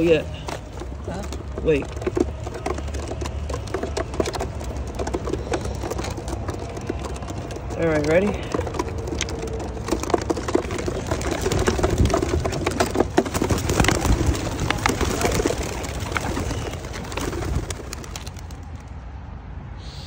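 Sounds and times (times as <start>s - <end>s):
wooden crate rattling: 0.0s - 18.9s
wings clattering: 0.0s - 19.0s.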